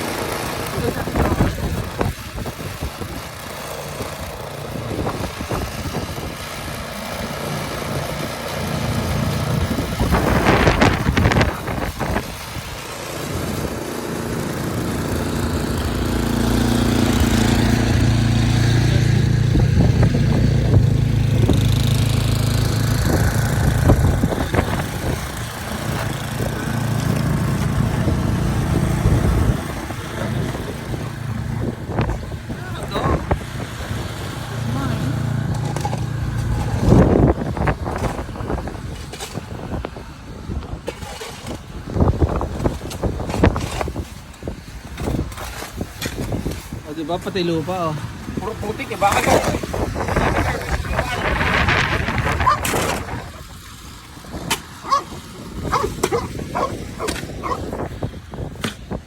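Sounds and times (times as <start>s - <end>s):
vehicle engine running: 0.0s - 40.8s, 46.7s - 58.4s
constant noise: 0.0s - 59.0s.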